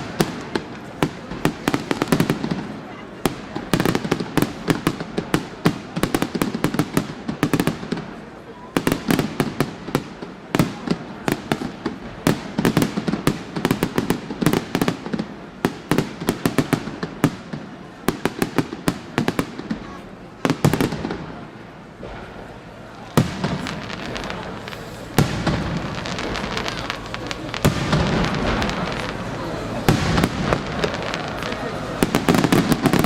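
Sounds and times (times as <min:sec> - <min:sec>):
fireworks bangs and crackles: 0:00.0 - 0:33.0
fireworks booms: 0:00.0 - 0:33.0.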